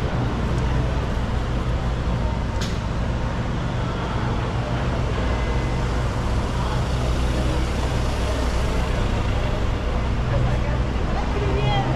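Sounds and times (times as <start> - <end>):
low rumble of car engines: 0.0 - 11.9.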